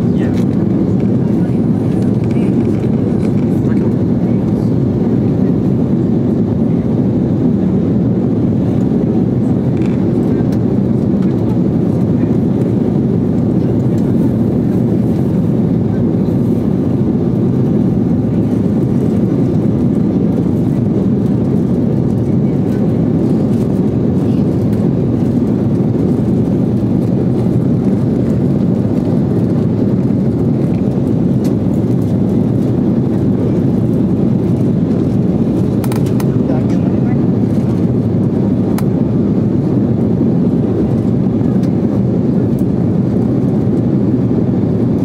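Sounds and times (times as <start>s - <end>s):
airflow over fuselage: 0.0s - 45.0s
jet engines rumbling: 0.0s - 45.0s.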